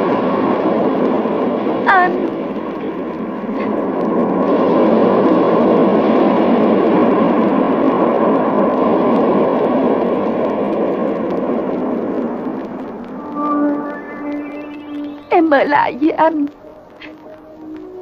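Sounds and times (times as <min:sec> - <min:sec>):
sea surf rushing: 0:00.0 - 0:18.0.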